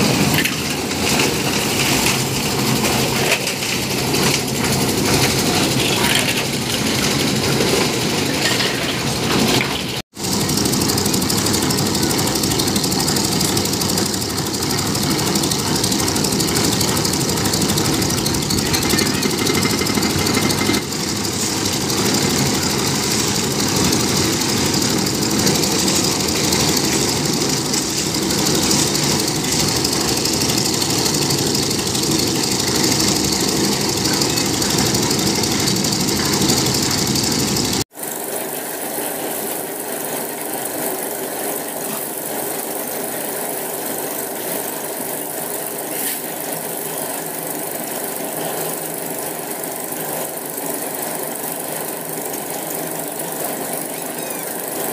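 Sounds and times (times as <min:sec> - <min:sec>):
concrete mixer engine running: 0:00.0 - 0:54.9.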